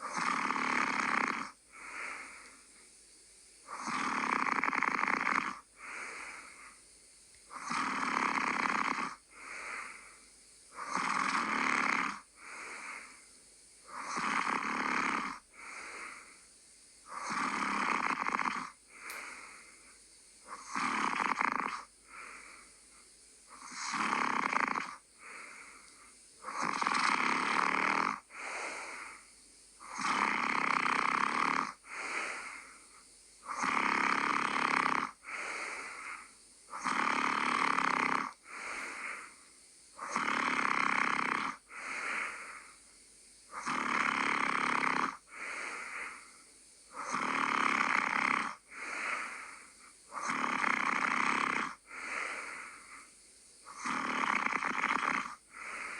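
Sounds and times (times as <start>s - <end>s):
person snoring: 0.0s - 2.6s, 3.6s - 6.8s, 7.5s - 13.2s, 13.8s - 16.4s, 17.0s - 22.7s, 23.5s - 42.8s, 43.5s - 55.9s.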